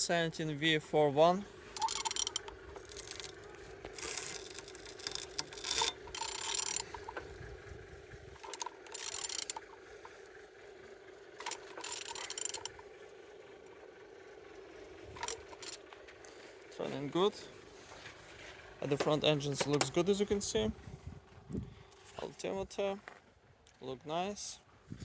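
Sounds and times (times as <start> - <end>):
engine turned with ratcheting wrench: 0.0 - 25.0.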